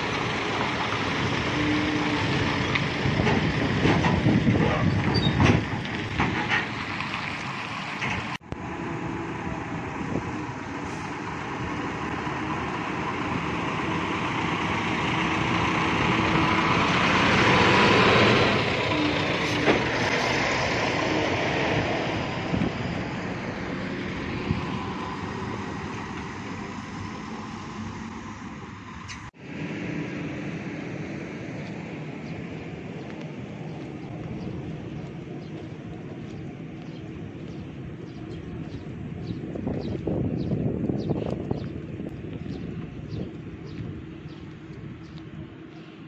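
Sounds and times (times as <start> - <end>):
truck diesel engine passing: 0.0 - 46.0
truck tyres on road: 0.0 - 46.0.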